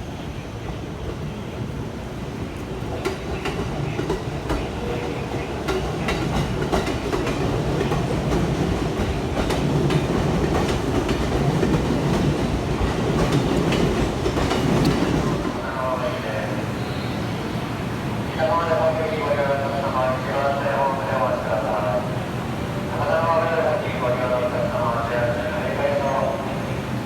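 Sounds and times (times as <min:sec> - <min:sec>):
train rumbling along track: 0:00.0 - 0:27.0.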